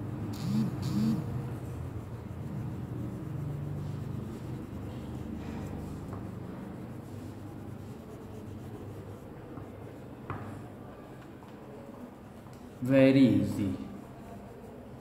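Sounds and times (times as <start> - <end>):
pencil scratching on paper: 0.0 - 10.3, 11.8 - 15.0.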